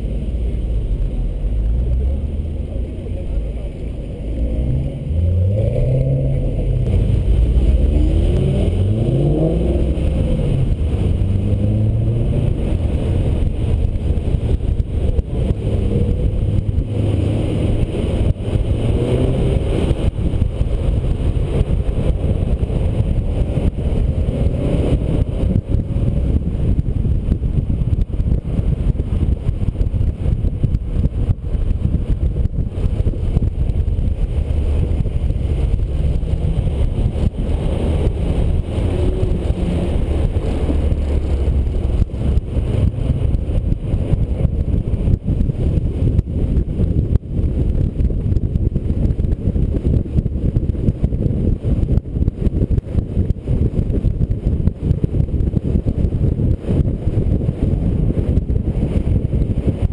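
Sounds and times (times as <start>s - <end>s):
car engines accelerating: 0.0s - 59.9s
wind and road noise: 0.0s - 59.9s.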